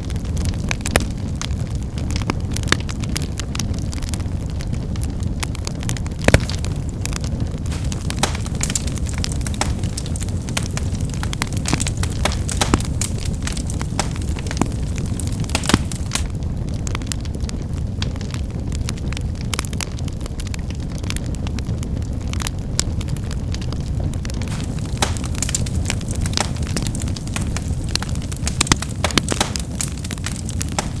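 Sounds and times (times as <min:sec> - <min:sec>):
fire low rumble: 0:00.0 - 0:31.0
firewood crackling and popping: 0:00.0 - 0:31.0.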